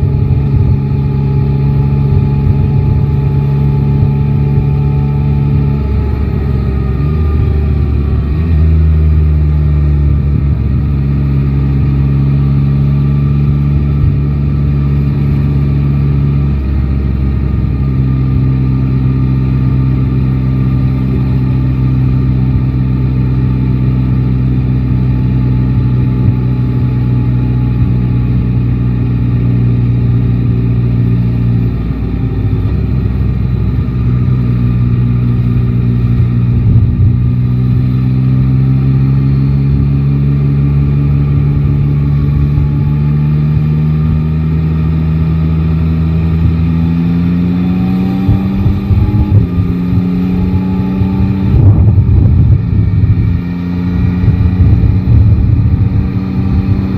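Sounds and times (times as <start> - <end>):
motorcycle engine at road speed: 0.0 - 56.9.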